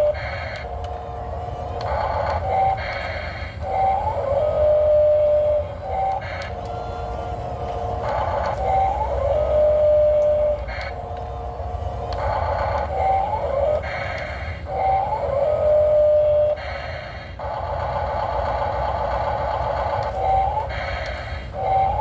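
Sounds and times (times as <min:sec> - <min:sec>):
model excavator motors whining: 0:00.0 - 0:22.0.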